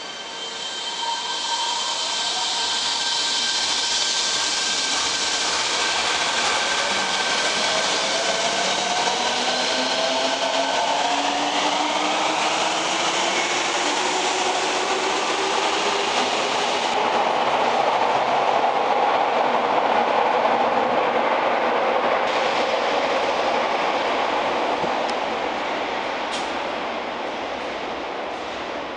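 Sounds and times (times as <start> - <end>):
train running noise: 0.0 - 28.9.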